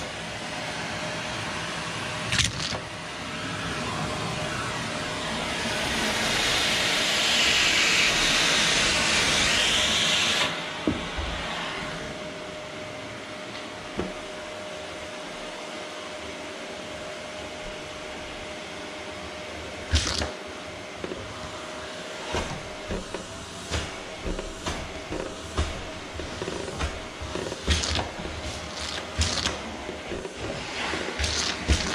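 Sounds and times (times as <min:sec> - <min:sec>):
vacuum cleaner hum: 0:00.0 - 0:31.9
vacuum cleaner suction hiss: 0:00.0 - 0:31.9.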